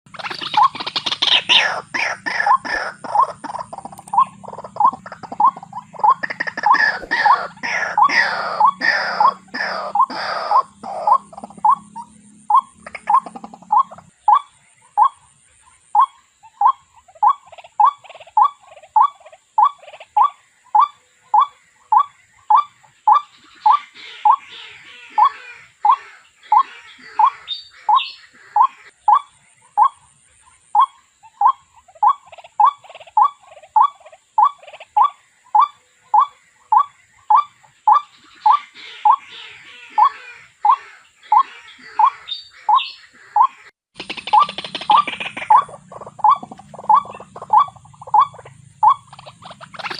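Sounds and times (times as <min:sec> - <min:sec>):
faint higher twittering: 0:00.1 - 0:49.9.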